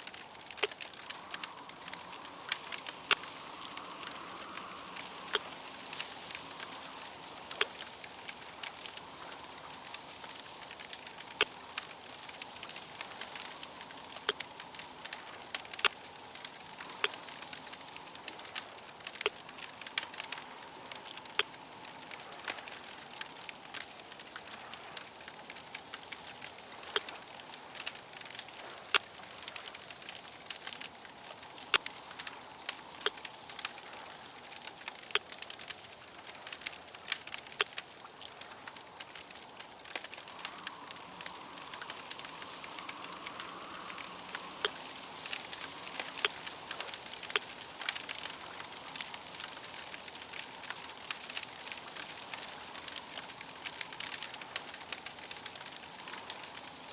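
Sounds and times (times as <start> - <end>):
soft steady hiss: 0.0 - 56.9
wood fire crackling: 0.0 - 56.9.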